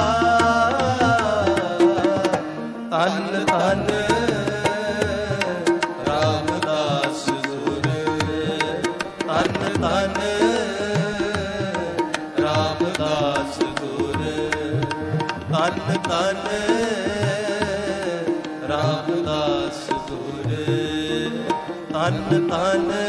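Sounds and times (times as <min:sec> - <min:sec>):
tabla playing: 0:00.0 - 0:23.0.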